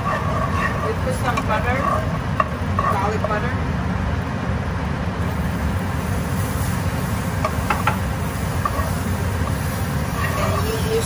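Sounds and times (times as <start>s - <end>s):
butter sizzling in frying pan: 0.0s - 3.4s, 5.2s - 11.0s
range hood fan running: 0.0s - 11.0s.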